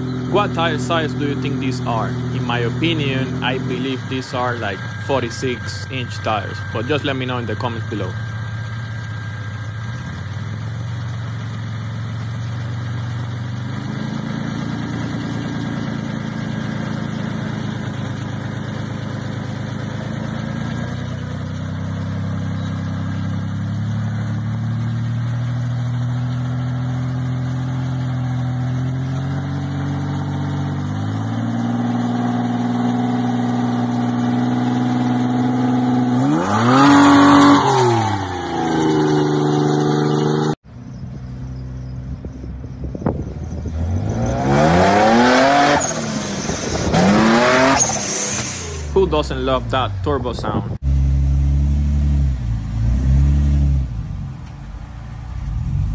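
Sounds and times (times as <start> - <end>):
car engine revving under load: 0.0 - 55.9.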